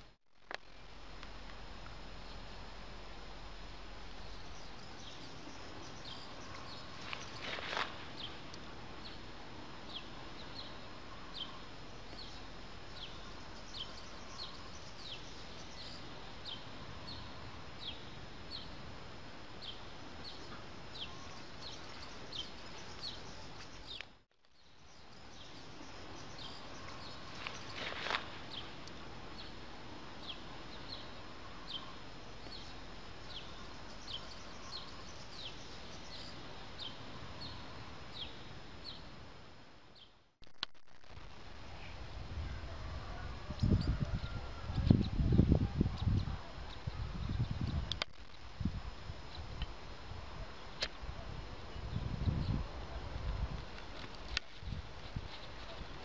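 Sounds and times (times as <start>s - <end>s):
steady outdoor hiss: 0.0s - 56.0s.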